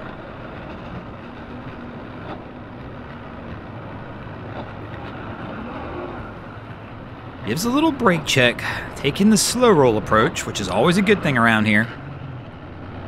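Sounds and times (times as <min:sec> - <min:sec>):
outboard motors humming: 0:00.0 - 0:13.0.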